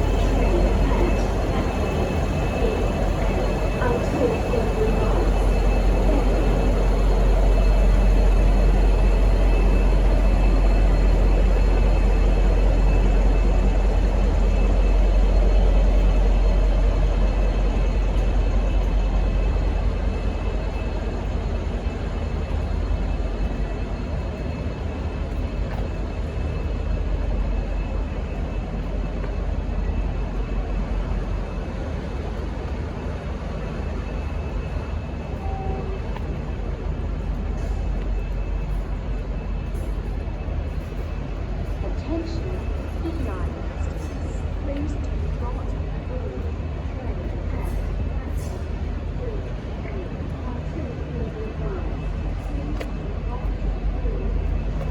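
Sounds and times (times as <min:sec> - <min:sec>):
diesel locomotive engine rumble: 0:00.0 - 0:54.9.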